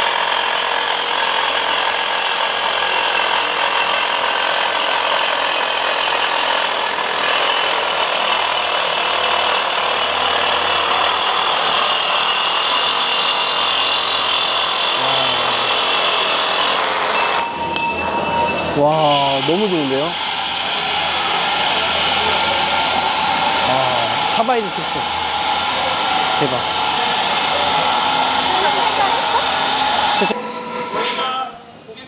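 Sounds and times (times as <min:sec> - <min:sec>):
power saw cutting: 0:00.0 - 0:17.7, 0:18.7 - 0:31.6.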